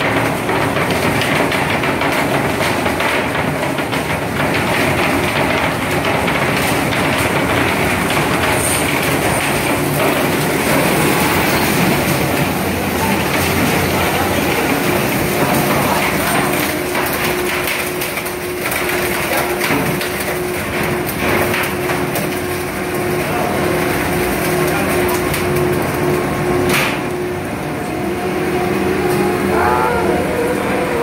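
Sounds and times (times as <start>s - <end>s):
deck machinery rattling: 0.0s - 31.0s
engine noise: 4.4s - 19.4s, 20.6s - 31.0s.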